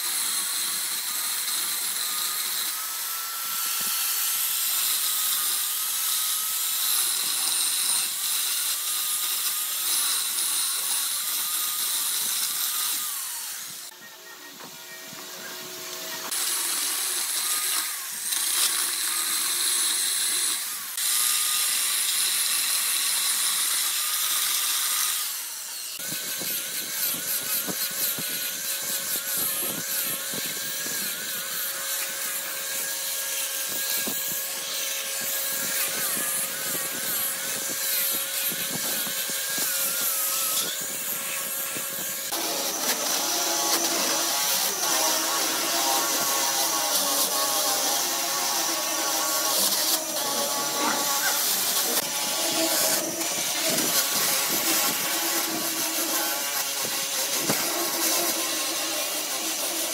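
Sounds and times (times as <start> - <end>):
angle grinder sanding wood: 0.0 - 59.9
power tool cutting wood: 0.0 - 59.9.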